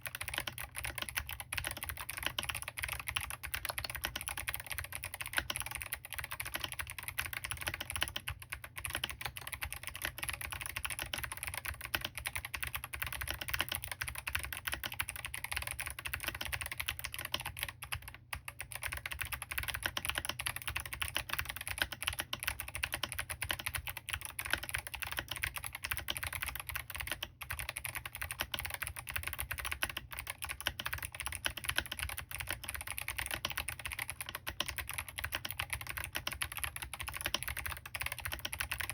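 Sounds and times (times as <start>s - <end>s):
clicky keyboard typing: 0.0s - 38.9s.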